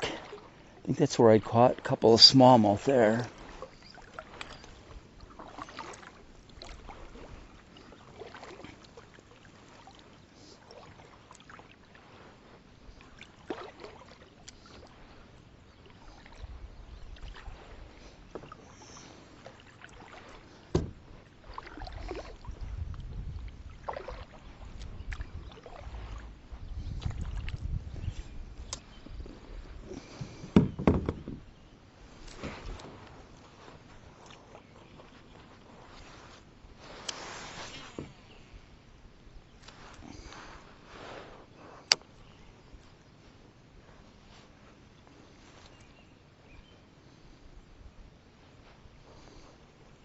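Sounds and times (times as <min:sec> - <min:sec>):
paddle strokes in water: 0:00.0 - 0:50.0.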